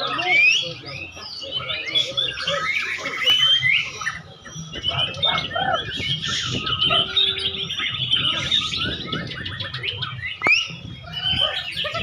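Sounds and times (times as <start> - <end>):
songbirds trilling and whistling: 0.0 - 12.0.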